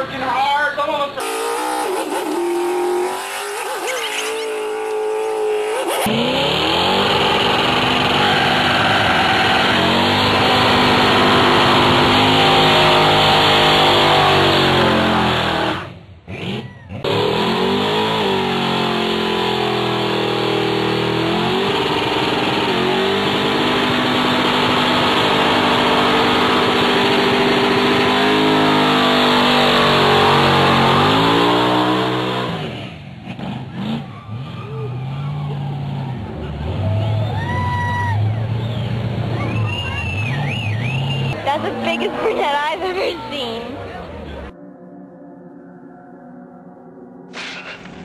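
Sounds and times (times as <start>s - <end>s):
car engines revving: 0.0s - 44.6s.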